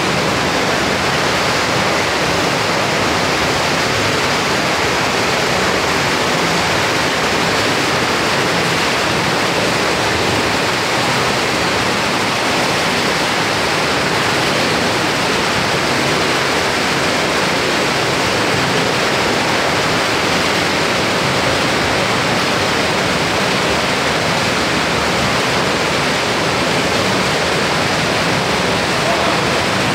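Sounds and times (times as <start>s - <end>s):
water jets churning water: 0.0s - 29.9s.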